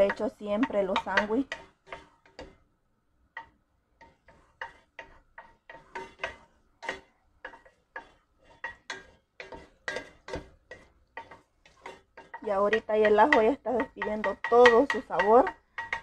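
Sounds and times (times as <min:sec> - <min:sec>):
wooden spoon tapping a metal pot: 0:00.0 - 0:02.7, 0:03.3 - 0:16.0.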